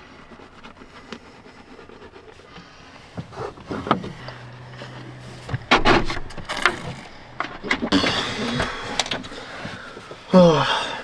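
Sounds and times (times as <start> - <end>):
short low hum: 1.3 - 10.3.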